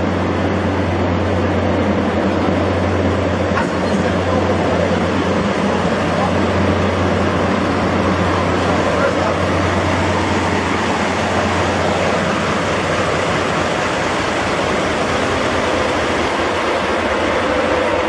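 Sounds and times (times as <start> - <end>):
diesel locomotive idling: 0.0 - 18.0.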